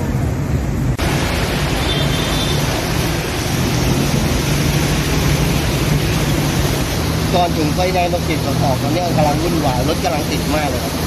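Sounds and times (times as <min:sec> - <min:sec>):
rushing water wash: 0:00.0 - 0:11.0.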